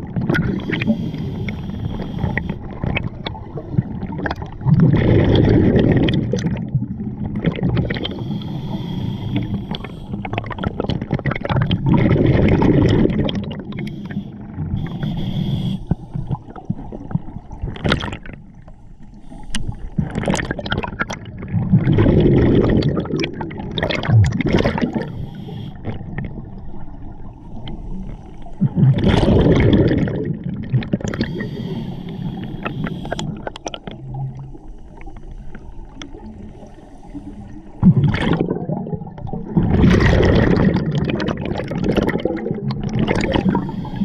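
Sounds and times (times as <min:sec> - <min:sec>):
diver exhaling bubbles: 0:00.0 - 0:18.4, 0:20.0 - 0:26.5, 0:28.6 - 0:34.6, 0:37.8 - 0:44.0.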